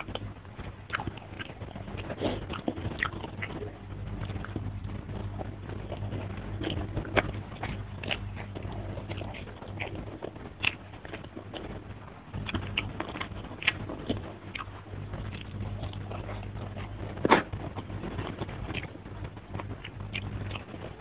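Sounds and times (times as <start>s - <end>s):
chewing and lip-smacking: 0.0s - 21.0s
steady low hum: 0.0s - 21.0s.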